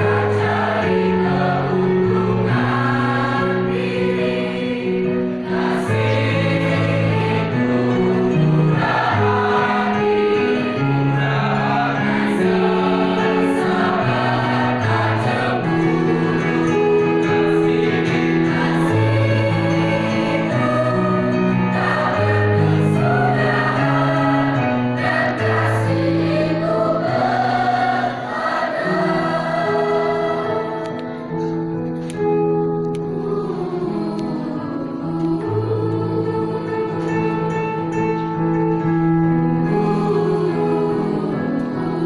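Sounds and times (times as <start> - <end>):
mixed choir singing a hymn: 0.0 - 31.6, 33.1 - 38.3, 39.5 - 42.0.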